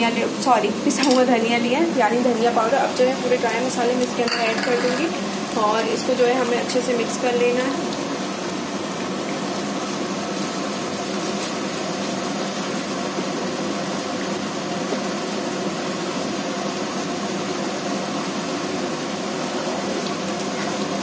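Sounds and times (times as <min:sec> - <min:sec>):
masala sizzling in hot oil: 0:00.0 - 0:21.0.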